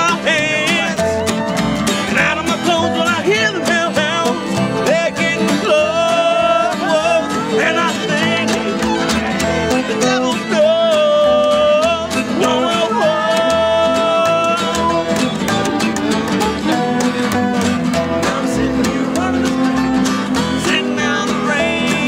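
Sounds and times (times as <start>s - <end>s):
sliding lead melody: 0.0s - 22.0s
strummed acoustic guitars: 0.0s - 22.0s.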